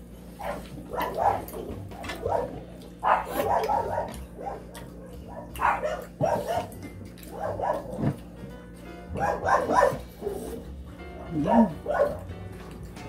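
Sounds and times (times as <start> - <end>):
dog barking: 0.4 - 8.2, 9.1 - 10.6, 11.2 - 12.3.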